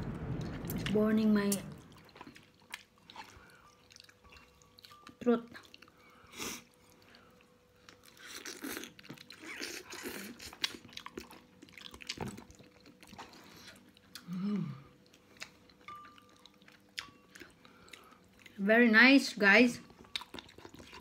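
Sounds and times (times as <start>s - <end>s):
person chewing: 1.8s - 18.6s, 19.9s - 21.0s.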